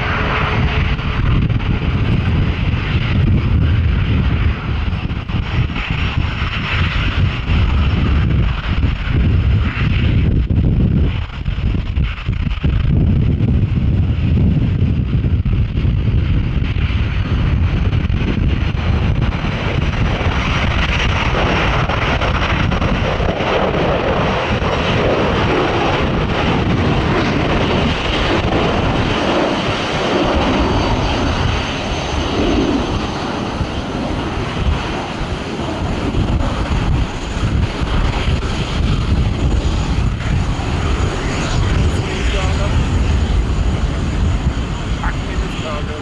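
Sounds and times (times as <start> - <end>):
high engine whine: 0.0 - 46.0
jet engines roaring: 0.0 - 46.0
wind buffeting microphone: 0.0 - 46.0.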